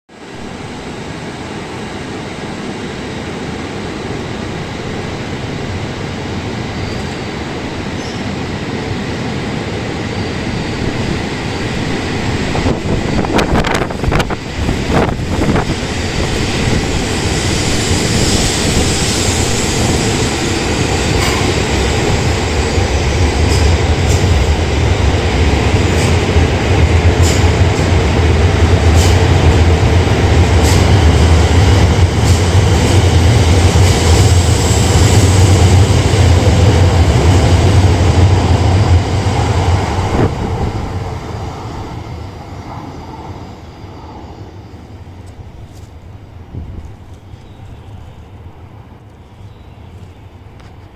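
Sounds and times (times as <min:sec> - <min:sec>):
train running noise: 0:00.1 - 0:50.9.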